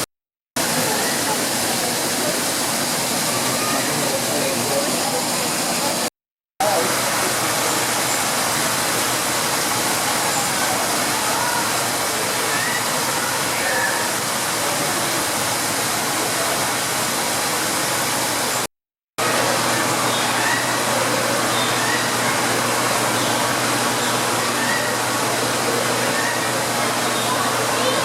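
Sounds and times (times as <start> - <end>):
falling water rushing: 0.0 - 28.0.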